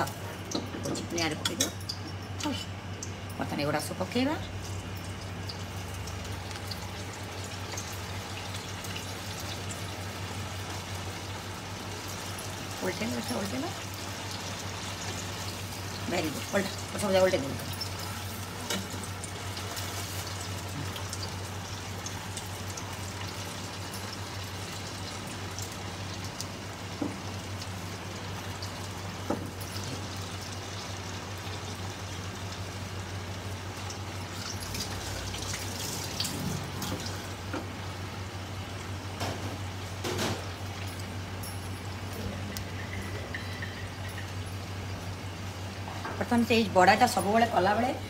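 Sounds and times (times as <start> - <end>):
deep-frying bubbling sizzle: 0.0 - 48.0
low steady hum: 0.0 - 48.0.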